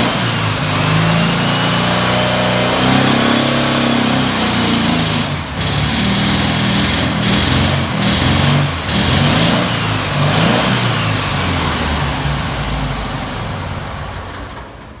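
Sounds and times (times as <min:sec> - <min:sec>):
car engine revving on dyno: 0:00.0 - 0:14.0.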